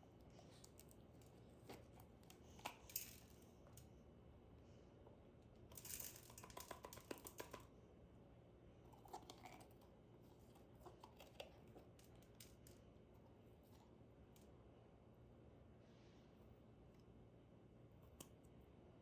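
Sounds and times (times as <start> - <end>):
quiet room hum: 0.0 - 19.0.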